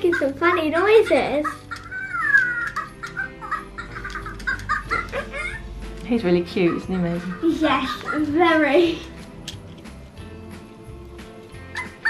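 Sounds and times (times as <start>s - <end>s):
background music with low beat: 0.0s - 12.0s.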